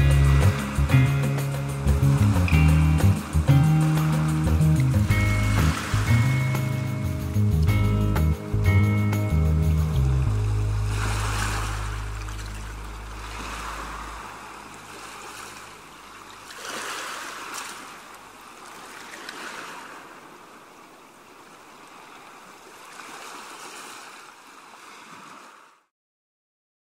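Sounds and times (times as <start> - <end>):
sea waves washing in: 0.0 - 25.9.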